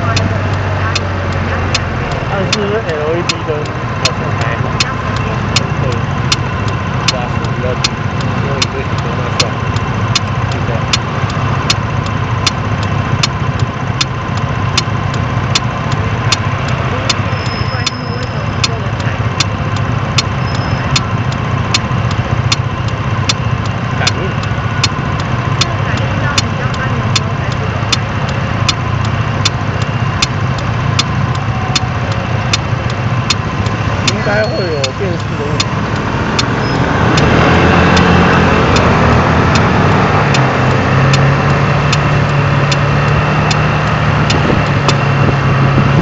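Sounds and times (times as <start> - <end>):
scooter engine idling: 0.0 - 37.0
sharp regular tick: 0.1 - 25.8, 26.4 - 45.9.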